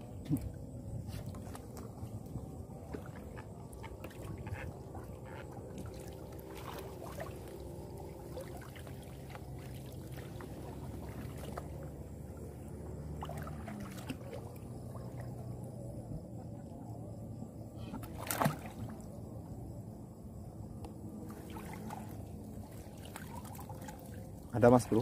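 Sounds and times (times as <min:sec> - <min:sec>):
low steady hum: 0:00.0 - 0:25.0
water sloshing and trickling: 0:00.0 - 0:25.0.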